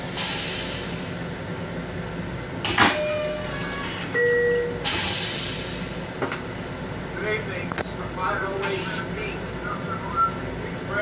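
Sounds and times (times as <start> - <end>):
electric railcar rumble: 0.0 - 11.0.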